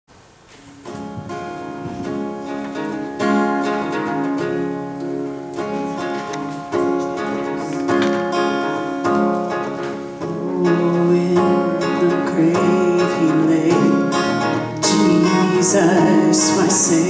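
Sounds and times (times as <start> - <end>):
acoustic guitar chords ringing: 0.2 - 17.0.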